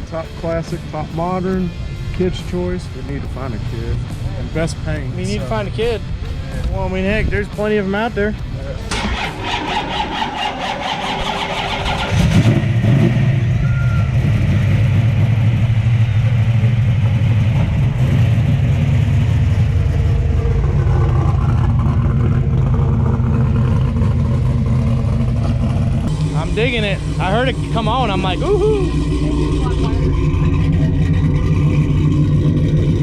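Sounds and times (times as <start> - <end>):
car engine cranking: 0.0 - 33.0
car engine idling: 0.0 - 33.0.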